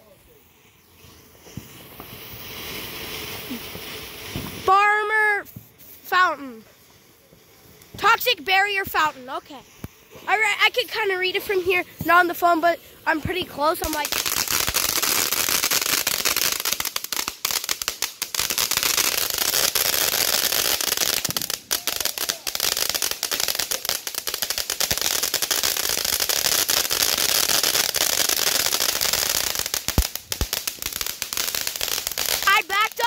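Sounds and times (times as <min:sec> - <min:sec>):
fountain firework hissing and crackling: 0:00.0 - 0:33.0.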